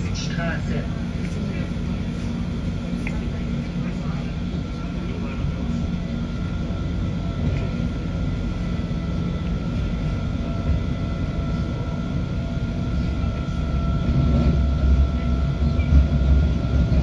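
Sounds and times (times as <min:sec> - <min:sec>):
railcar rumbling: 0:00.0 - 0:17.0.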